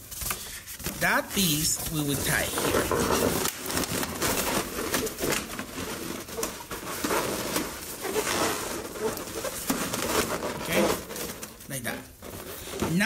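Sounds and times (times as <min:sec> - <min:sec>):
balloons squeaking and rubbing: 0:00.0 - 0:13.0.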